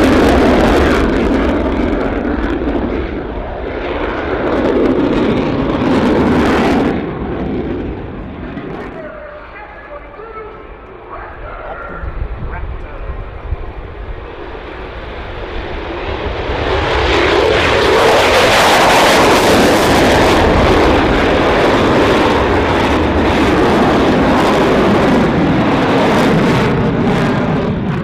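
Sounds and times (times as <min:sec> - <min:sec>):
jet engine roar in afterburner: 0:00.0 - 0:28.0.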